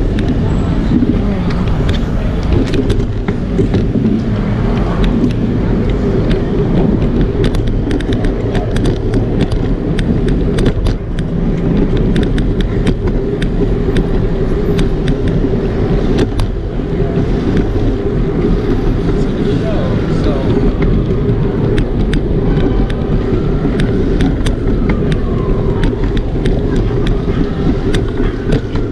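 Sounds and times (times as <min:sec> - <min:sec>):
bicycle rumbling over concrete: 0:00.0 - 0:28.9
sharp clicks and rattles: 0:00.0 - 0:28.9.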